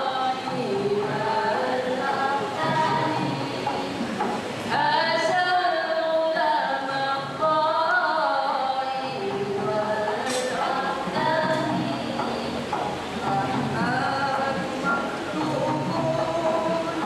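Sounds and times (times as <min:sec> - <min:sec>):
women singing in harmony: 0:00.0 - 0:17.0.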